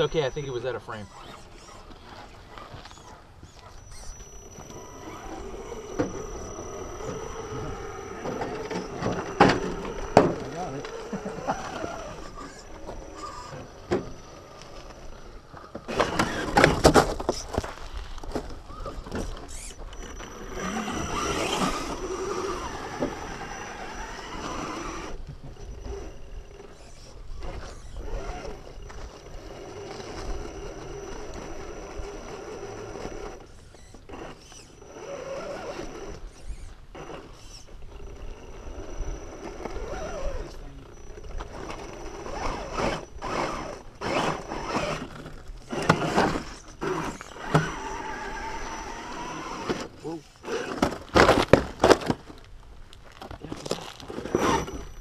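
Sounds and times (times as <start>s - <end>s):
rc car motor and gears whining: 0.0s - 55.0s
tires scrabbling on rock: 0.0s - 55.0s.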